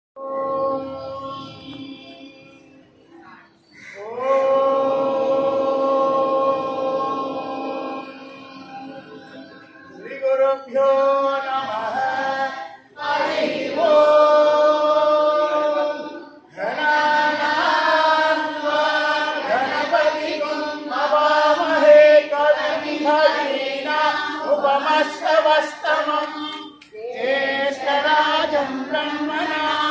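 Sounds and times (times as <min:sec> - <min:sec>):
voices singing devotional song: 0:00.2 - 0:29.9.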